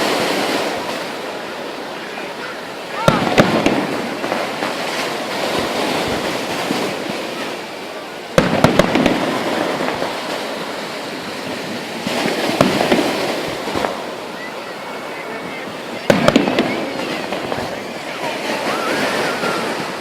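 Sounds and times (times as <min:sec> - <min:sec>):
crackling pops of fireworks: 0:00.0 - 0:20.0
fireworks bang: 0:03.0 - 0:07.7, 0:08.3 - 0:20.0.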